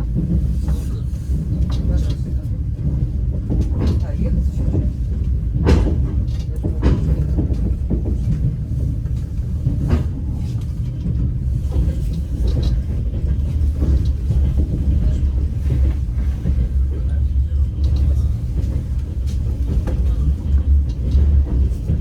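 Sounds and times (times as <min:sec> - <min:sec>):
train running gear rumbling: 0:00.0 - 0:22.0
wheels knocking on rails: 0:00.1 - 0:22.0.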